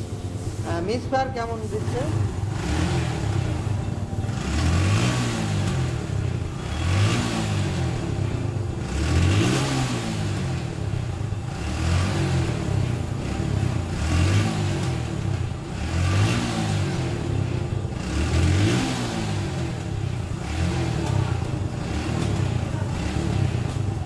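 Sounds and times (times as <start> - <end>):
misfiring motorcycle engine revving: 1.8 - 24.0.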